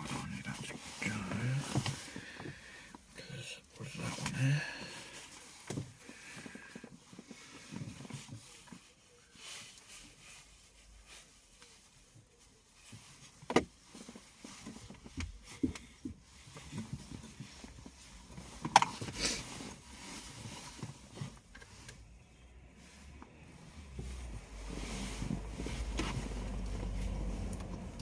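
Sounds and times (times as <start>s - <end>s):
clicks and rustles handling wires: 0.0s - 28.0s.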